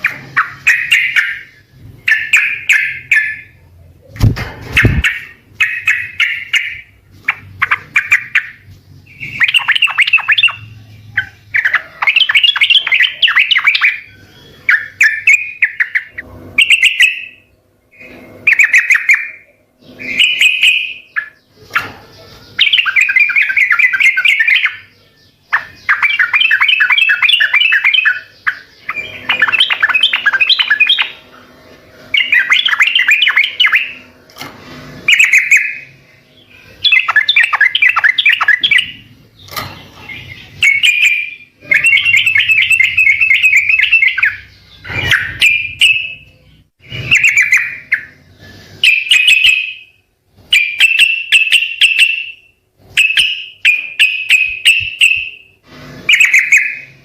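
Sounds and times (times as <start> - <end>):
bird singing bubbling chatter: 0.0 - 34.3, 34.9 - 57.0.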